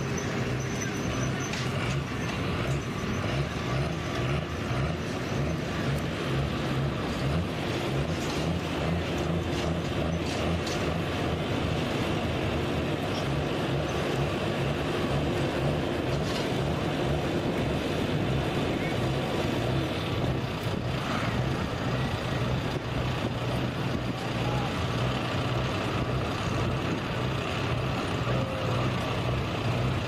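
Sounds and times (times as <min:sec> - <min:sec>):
diesel truck engine under load: 0:00.0 - 0:30.0.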